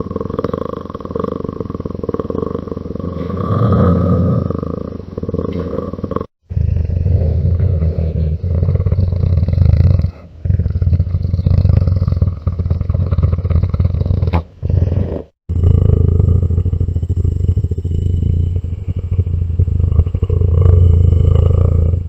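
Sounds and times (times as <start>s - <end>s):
creature purring: 0.0s - 22.0s.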